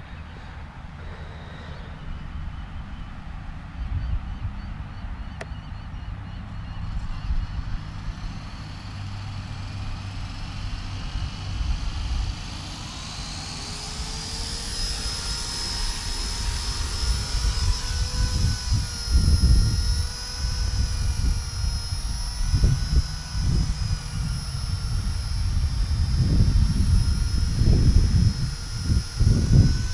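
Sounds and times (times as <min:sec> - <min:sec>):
wind rumbling on microphone: 0:00.0 - 0:05.2, 0:06.1 - 0:29.9
rc helicopter rotor whine: 0:00.0 - 0:29.9.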